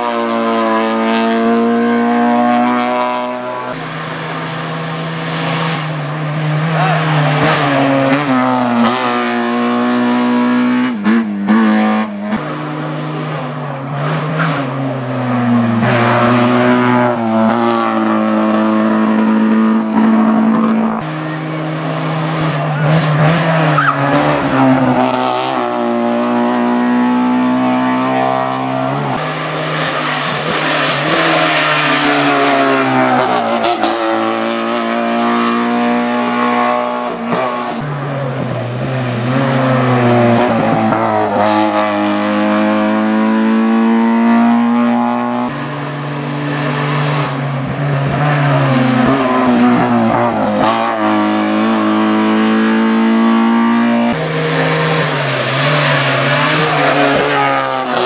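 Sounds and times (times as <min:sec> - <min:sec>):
race car engines revving past: 0:00.0 - 0:58.0.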